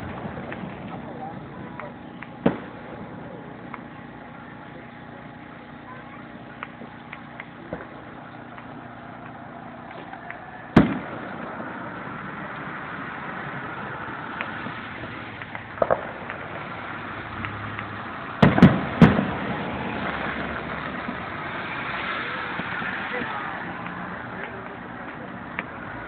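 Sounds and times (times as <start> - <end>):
firework shells exploding: 0.0 - 26.0
steady background noise: 0.0 - 26.0.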